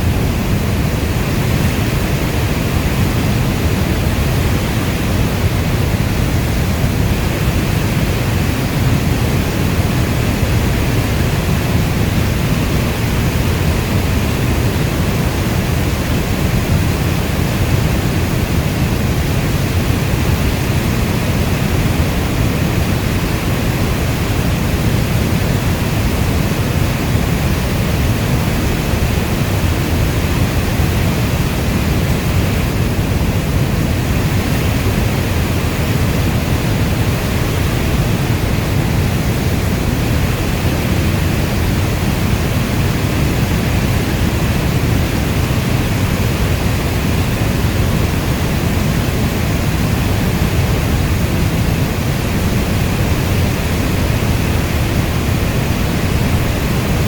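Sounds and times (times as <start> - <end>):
heavy rainfall: 0.0 - 57.0.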